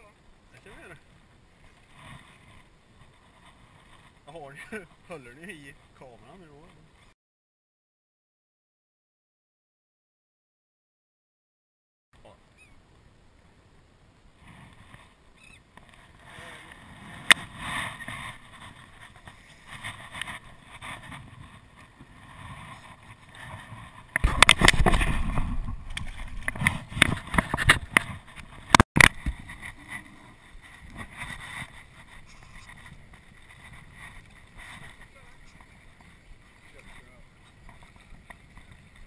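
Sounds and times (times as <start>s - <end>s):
water noise: 0.0s - 7.1s, 12.2s - 39.0s
faint wind: 0.0s - 7.2s, 12.2s - 39.0s.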